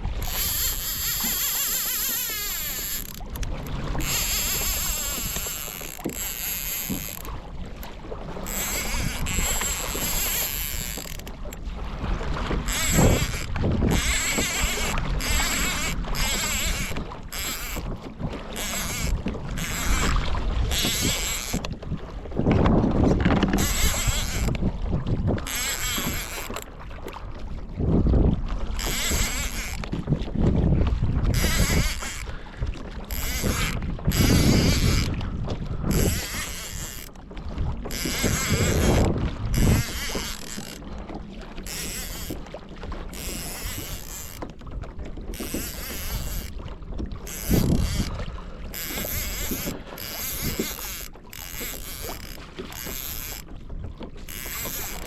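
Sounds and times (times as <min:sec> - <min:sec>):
water rushing along kayak hull: 0:00.0 - 0:55.0
wind buffeting microphone: 0:00.0 - 0:55.0.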